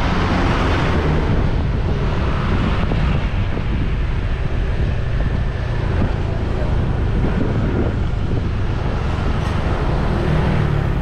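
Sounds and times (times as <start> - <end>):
road and vehicle rumble: 0.0 - 11.0
wind buffeting microphone: 0.0 - 11.0.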